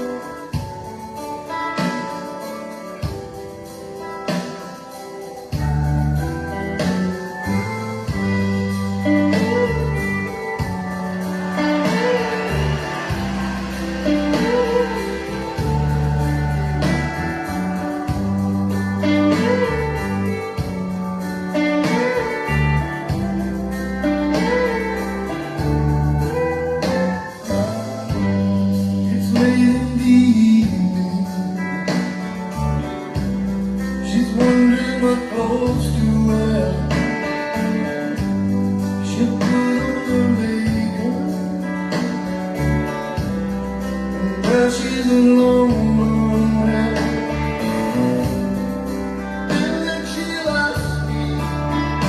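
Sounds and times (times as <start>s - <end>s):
guitar melody: 0.0s - 52.0s
held bass notes: 5.6s - 31.6s, 32.4s - 52.0s.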